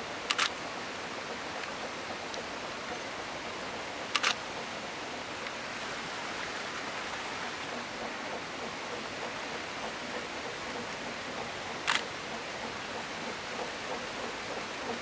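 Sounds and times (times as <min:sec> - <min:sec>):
distant steam locomotive hissing: 0:00.0 - 0:15.0.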